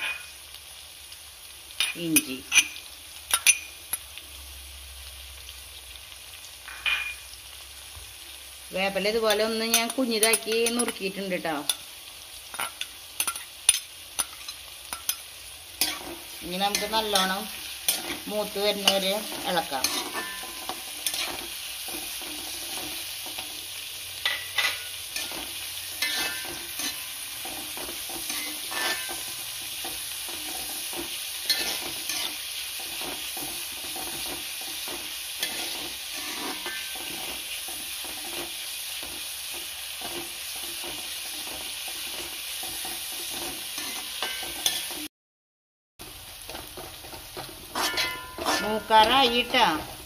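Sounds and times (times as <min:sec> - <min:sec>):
food sizzling in oil: 0:00.0 - 0:45.1, 0:46.0 - 0:50.0
metal spoon scraping a pan: 0:01.8 - 0:04.0, 0:09.1 - 0:11.9, 0:12.5 - 0:45.1, 0:46.5 - 0:50.0.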